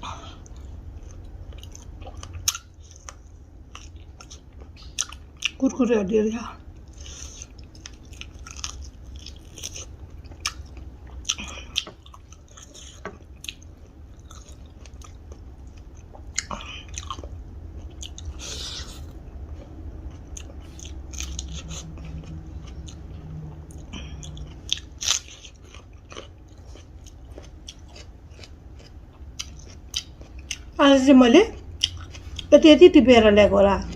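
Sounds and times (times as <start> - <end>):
person chewing crunchy food: 0.0 - 5.6, 6.6 - 30.8, 31.6 - 32.5
steady low hum: 0.0 - 33.9.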